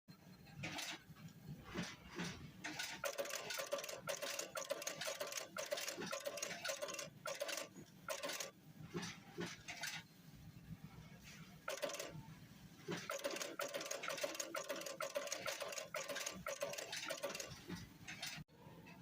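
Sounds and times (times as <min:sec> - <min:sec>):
sewing machine stitching: 0:00.5 - 0:10.0, 0:11.7 - 0:12.2, 0:12.8 - 0:18.4.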